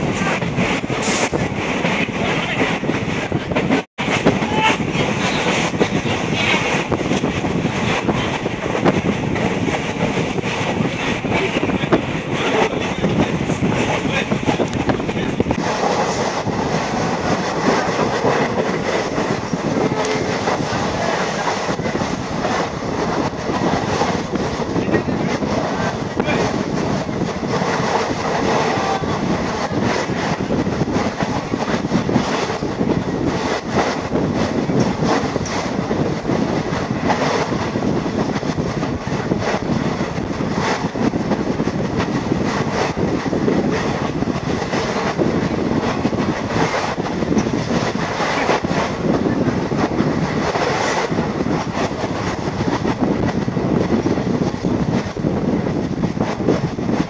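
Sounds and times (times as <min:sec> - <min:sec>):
rattling and clacking: 0:00.0 - 0:57.0
train wheels rumbling: 0:00.0 - 0:57.0
wind buffeting microphone: 0:00.0 - 0:57.0.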